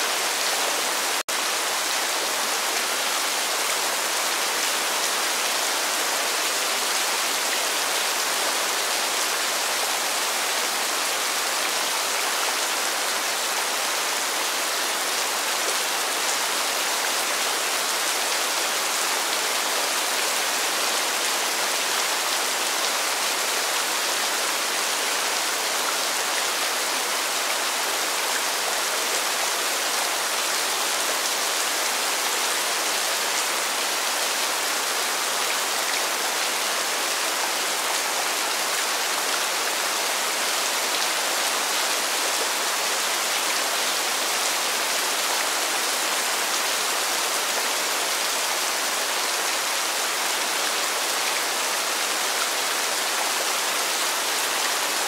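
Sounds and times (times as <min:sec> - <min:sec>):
rain falling steadily: 0:00.0 - 0:55.0.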